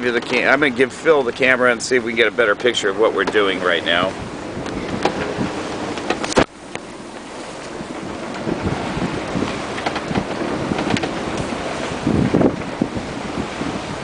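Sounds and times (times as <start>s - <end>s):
waves rushing around boat: 0.0s - 14.0s
wind buffeting microphone: 0.0s - 14.0s.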